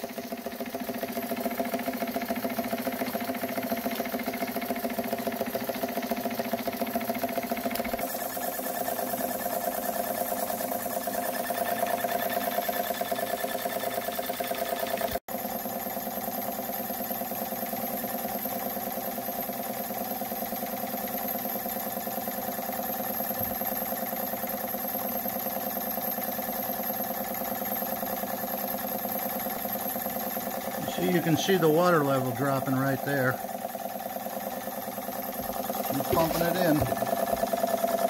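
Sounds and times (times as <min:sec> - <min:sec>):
model steam engine running: 0:00.0 - 0:38.0.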